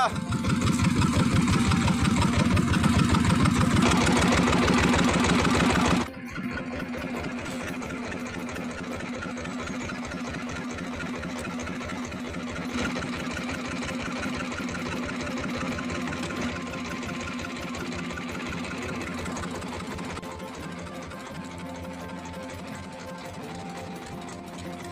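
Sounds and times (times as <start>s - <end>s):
boat engine idling: 0.0s - 24.9s.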